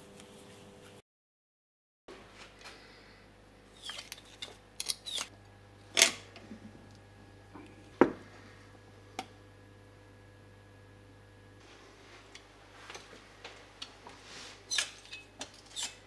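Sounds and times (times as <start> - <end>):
faint steady hum: 2.1 - 16.0.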